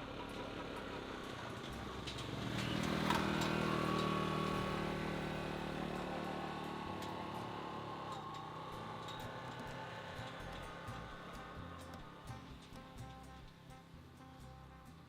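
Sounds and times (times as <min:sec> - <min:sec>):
vehicle engine passing by: 0:00.0 - 0:15.0.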